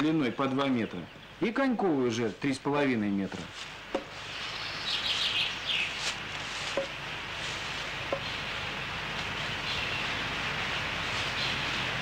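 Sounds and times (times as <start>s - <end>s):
small birds chirping: 0.0s - 12.0s
steady hiss: 0.0s - 12.0s.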